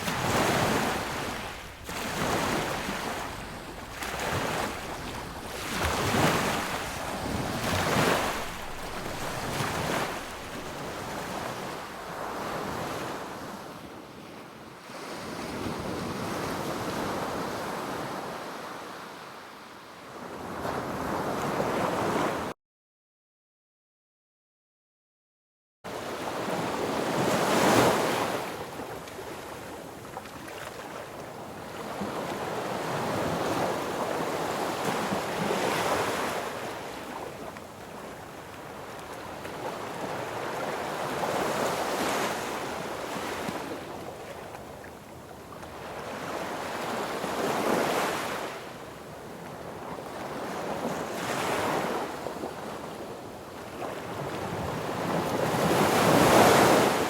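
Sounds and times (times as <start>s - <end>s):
waves breaking on a beach: 0.0s - 22.5s, 25.9s - 57.0s.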